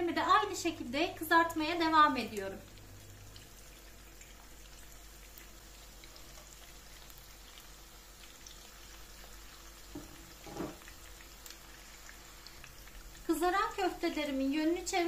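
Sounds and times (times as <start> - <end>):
meat sizzling in oil: 0.2 - 15.0.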